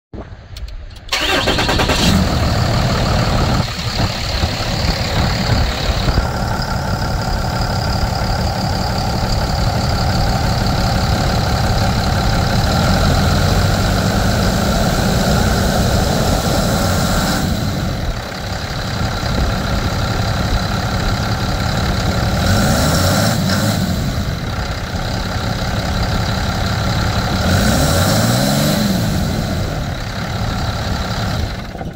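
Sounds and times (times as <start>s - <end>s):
diesel engine starting and idling: 0.3s - 31.9s
engine revving: 1.1s - 31.7s.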